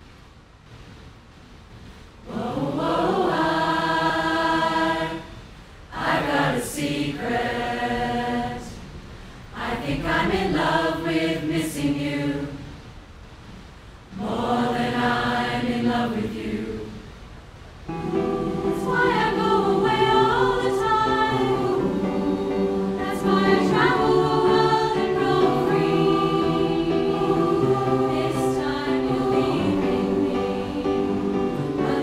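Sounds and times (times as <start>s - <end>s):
women's choir singing chords: 2.2s - 12.8s, 14.1s - 17.2s, 17.9s - 32.0s.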